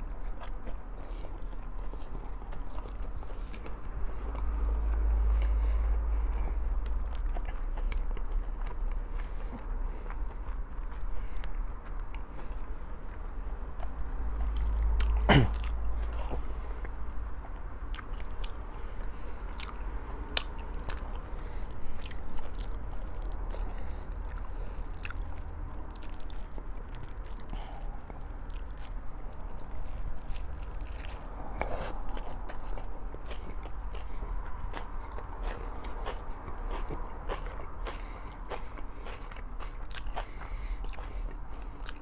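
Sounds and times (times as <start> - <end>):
close-up chewing and biting: 0.0 - 42.0.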